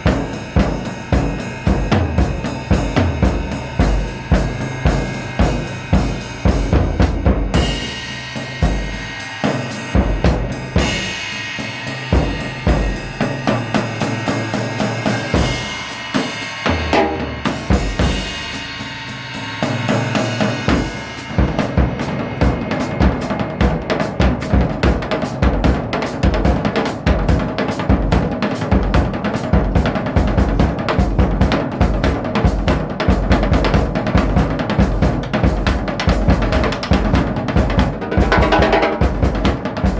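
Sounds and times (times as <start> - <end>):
drum kit playing: 0.0 - 18.9, 20.7 - 39.9.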